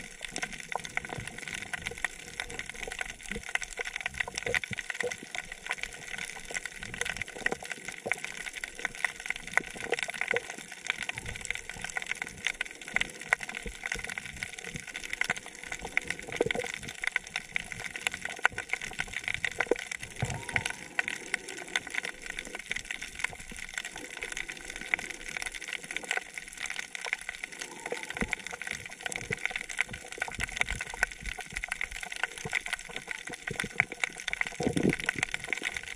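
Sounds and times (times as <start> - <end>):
snapping shrimp crackle: 6.4 - 35.9.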